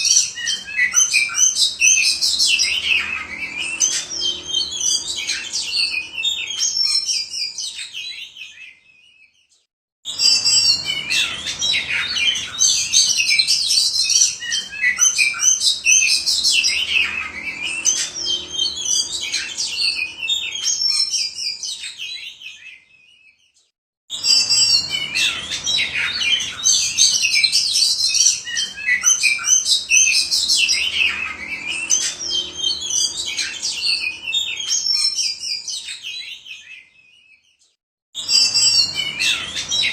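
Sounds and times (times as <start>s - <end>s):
bird singing whistles and chirps: 0.0s - 23.5s, 24.1s - 37.6s, 38.2s - 39.9s.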